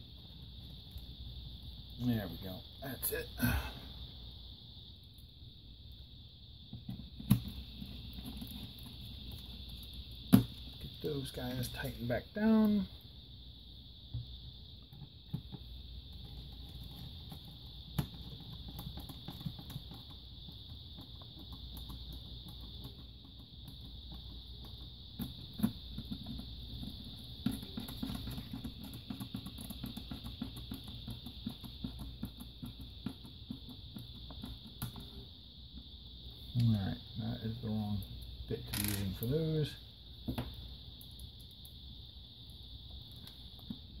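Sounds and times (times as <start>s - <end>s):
steady high hiss: 0.0s - 44.0s.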